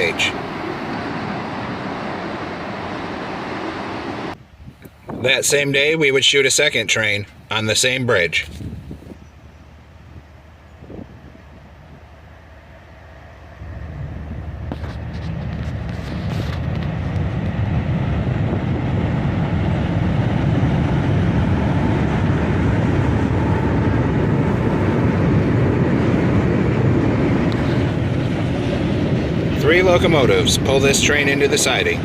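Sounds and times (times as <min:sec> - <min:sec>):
rail noise: 0:00.0 - 0:06.6, 0:07.2 - 0:32.0
freight train engine rumble: 0:00.0 - 0:32.0.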